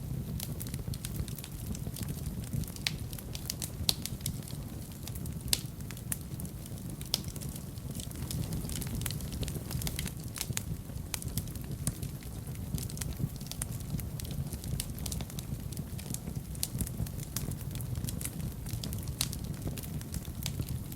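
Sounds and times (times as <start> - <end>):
fire crackling and popping: 0.0 - 20.9
fire rumbling: 0.0 - 20.9.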